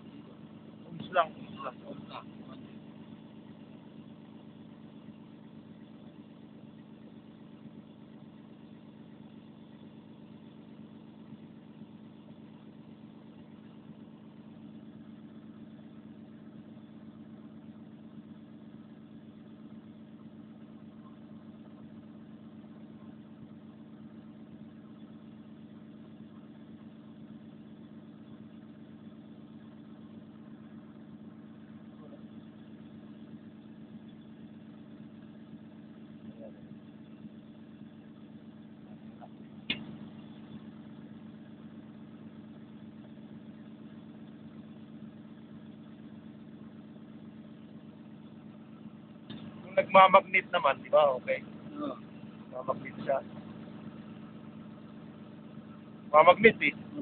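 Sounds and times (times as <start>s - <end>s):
excavator diesel engine idling: 0.0s - 57.0s.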